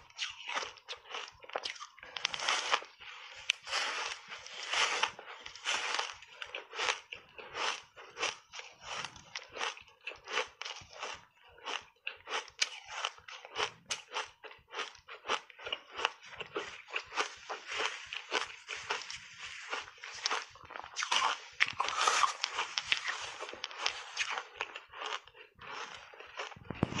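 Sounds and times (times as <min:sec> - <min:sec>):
ice being chewed crunching: 0:00.0 - 0:27.0.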